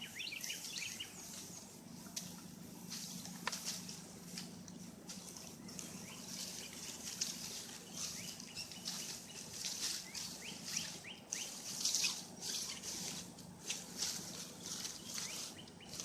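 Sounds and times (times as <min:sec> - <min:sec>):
birds chirping: 0:00.0 - 0:16.0
faint low hum: 0:00.0 - 0:16.0.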